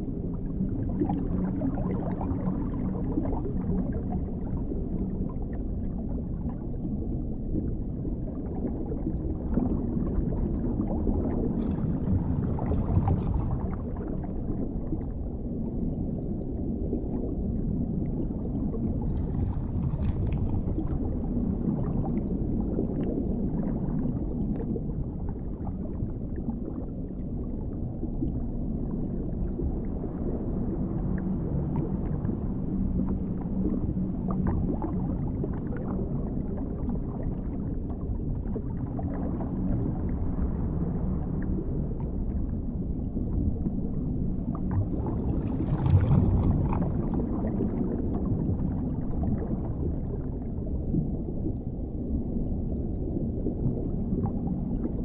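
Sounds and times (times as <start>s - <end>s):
muffled underwater rumble: 0.0s - 55.0s.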